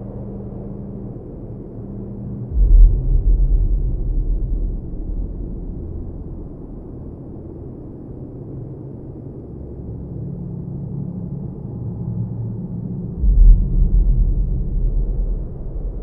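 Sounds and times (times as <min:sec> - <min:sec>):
low droning music: 0:00.0 - 0:16.0.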